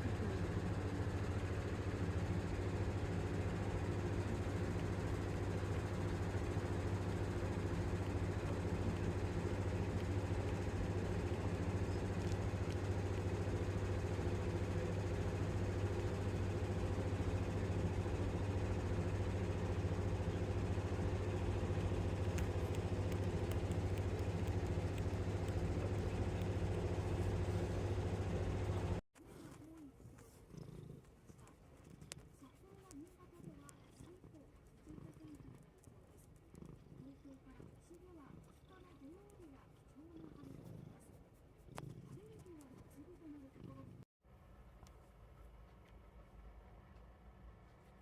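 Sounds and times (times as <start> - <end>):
cat purring: 0.0 - 44.1.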